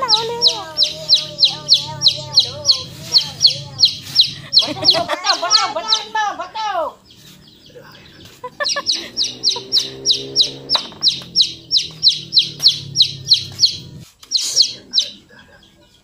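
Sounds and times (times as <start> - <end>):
bird chirping sharply: 0.0 - 15.3.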